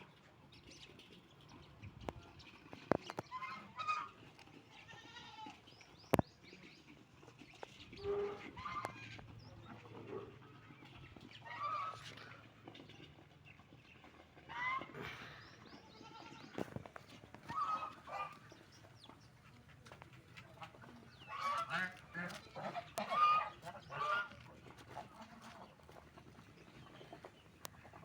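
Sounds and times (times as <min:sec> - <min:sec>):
ducks quacking: 0:00.1 - 0:05.6, 0:06.5 - 0:28.0.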